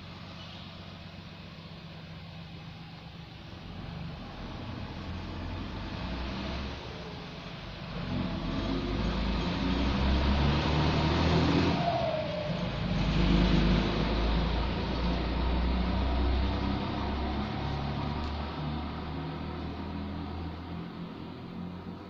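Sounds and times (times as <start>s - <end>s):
tyre and road noise: 0.0s - 22.0s
vehicle engine rumble: 0.0s - 22.0s.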